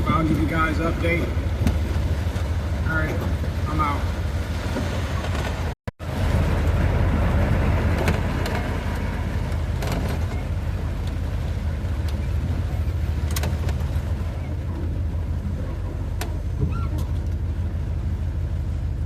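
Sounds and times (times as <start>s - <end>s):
van engine and road hum: 0.0s - 19.0s.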